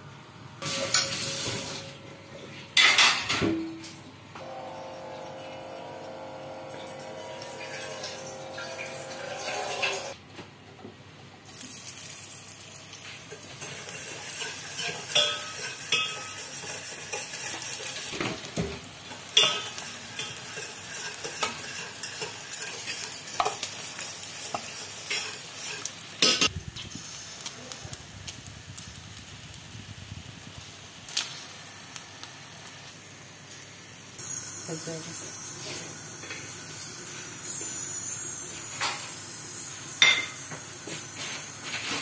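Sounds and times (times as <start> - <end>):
food sizzling in hot oil: 0.6 - 2.0, 4.4 - 10.2, 11.4 - 42.0.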